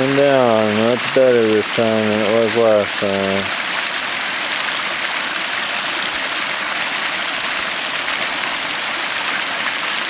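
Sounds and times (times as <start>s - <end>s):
water splashing down rocks: 0.0s - 10.0s.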